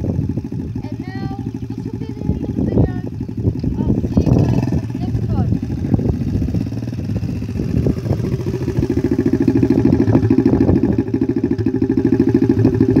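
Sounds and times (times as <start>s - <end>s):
dirt bike engine idling: 0.0s - 13.0s.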